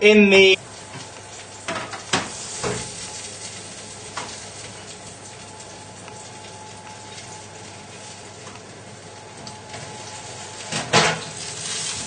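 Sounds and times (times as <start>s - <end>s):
food sizzling in frying pan: 0.6s - 12.0s
pot of pasta boiling: 0.6s - 12.0s.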